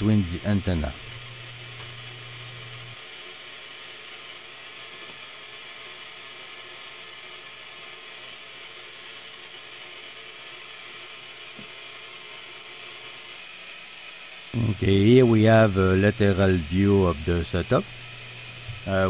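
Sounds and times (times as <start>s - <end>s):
electrical hiss and buzz: 0.0s - 19.0s.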